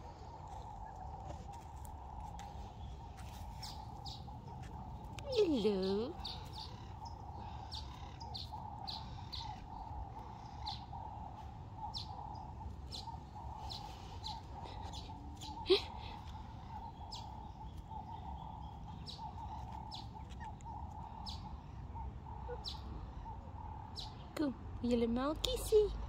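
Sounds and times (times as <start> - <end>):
birds chirping: 0.0 - 26.0
steady background hum: 0.0 - 26.0.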